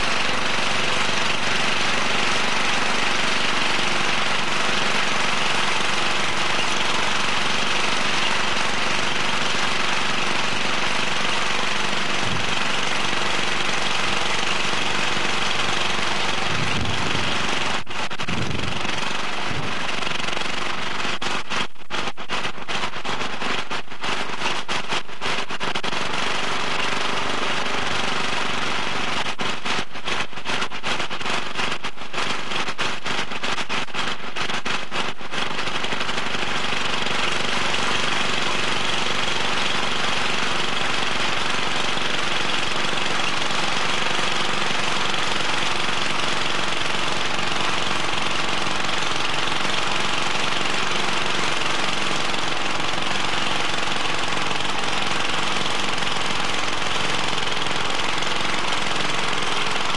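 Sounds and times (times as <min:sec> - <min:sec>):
petrol lawnmower engine running: 0:00.0 - 0:59.9.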